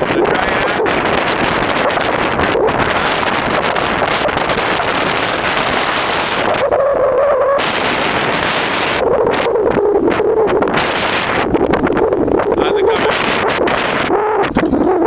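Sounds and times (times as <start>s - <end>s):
drawn-out whining tones: 0.0s - 15.0s
storm wind buffeting microphone: 0.0s - 15.0s.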